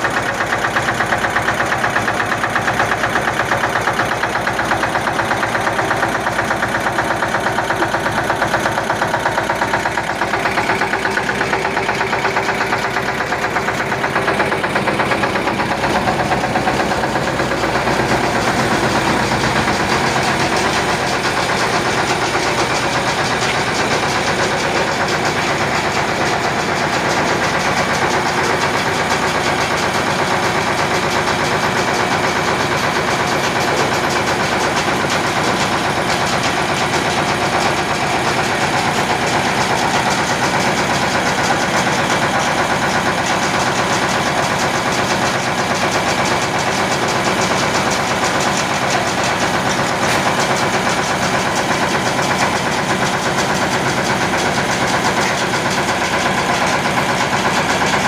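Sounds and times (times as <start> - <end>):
diesel engine running: 0.0 - 58.0
milling machinery: 0.0 - 58.0.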